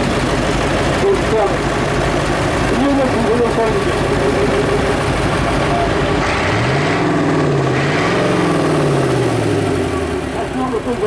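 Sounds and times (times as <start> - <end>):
tractor diesel engine revving: 0.0 - 11.0.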